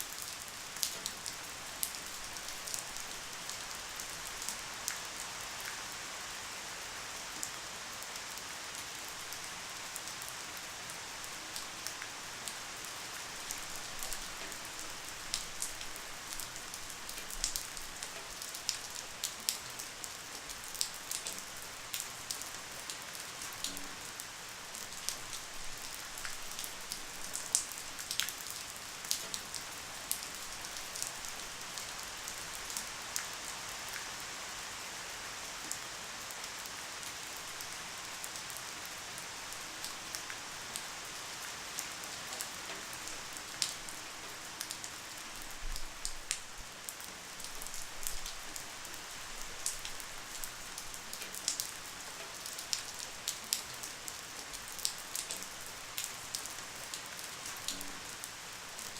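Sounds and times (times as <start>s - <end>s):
light rain hiss: 0.0s - 58.9s.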